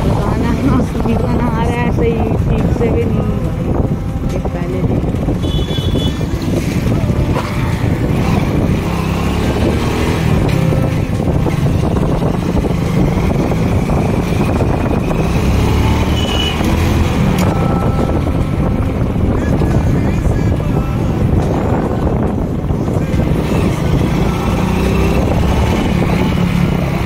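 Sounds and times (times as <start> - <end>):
vehicle engine while riding: 0.0 - 27.0
wind buffeting microphone: 0.0 - 27.0.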